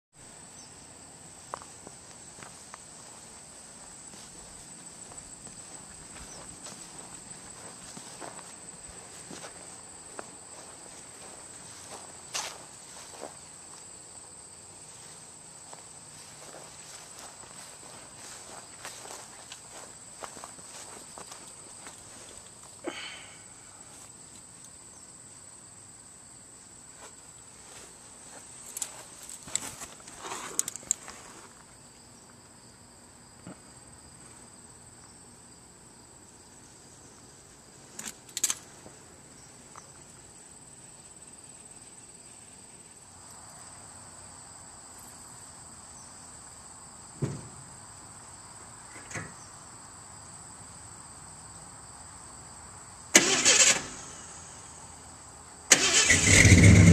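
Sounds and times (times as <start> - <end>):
crickets trilling: 0.2 - 56.9.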